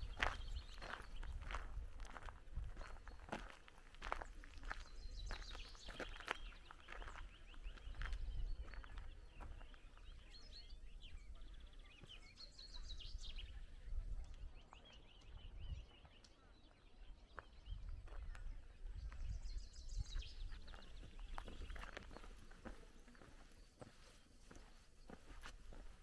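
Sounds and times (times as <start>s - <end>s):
small birds singing: 0.0s - 26.0s.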